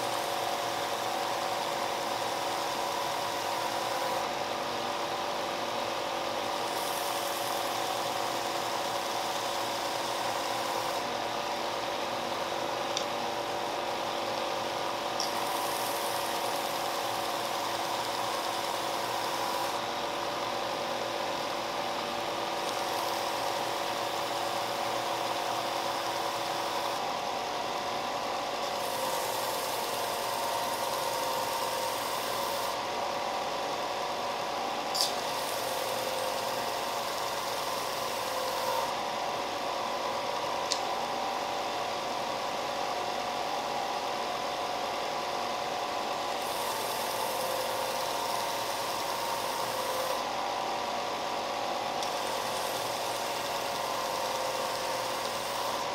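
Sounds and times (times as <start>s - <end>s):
belt sander motor hum: 0.0s - 41.8s, 46.2s - 55.9s.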